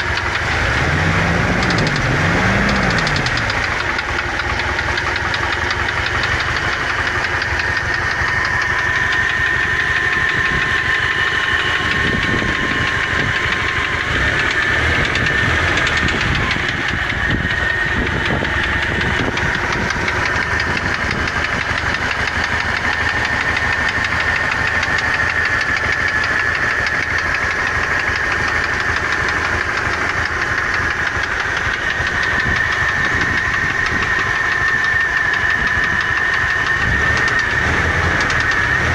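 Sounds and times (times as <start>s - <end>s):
engine running with rapid knock: 0.0s - 38.9s.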